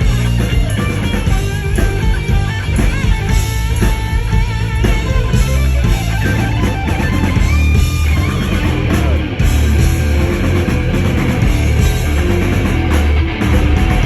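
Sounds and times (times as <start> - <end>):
live hard rock band: 0.0 - 14.0.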